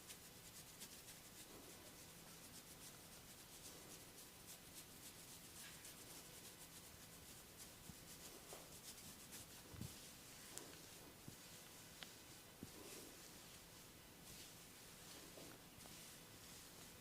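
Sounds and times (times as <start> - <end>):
hands rubbing hair and skin: 0.0 - 17.0.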